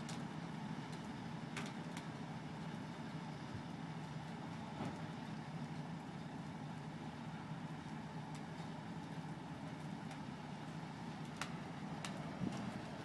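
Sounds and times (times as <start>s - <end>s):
forklift engine running: 0.0s - 13.0s.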